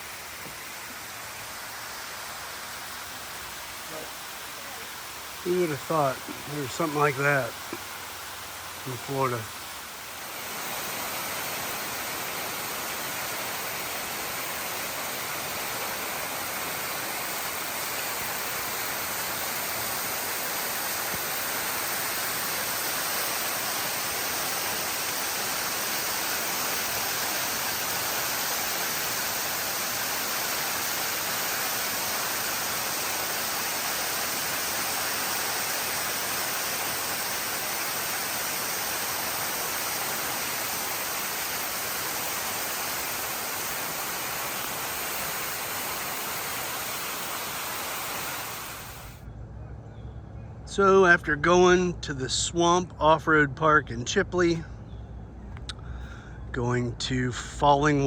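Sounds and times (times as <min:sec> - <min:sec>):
waterfall rushing: 0:00.0 - 0:49.2.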